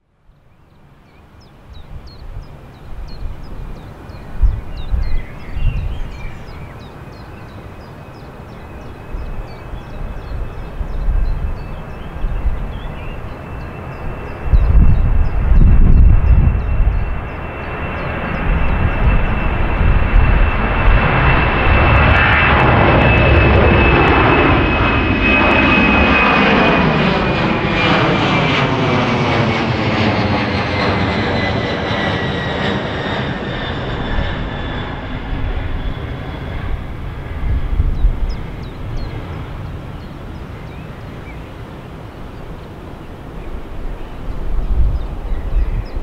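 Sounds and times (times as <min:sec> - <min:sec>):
jet engines roaring with whine: 0:00.2 - 0:46.0.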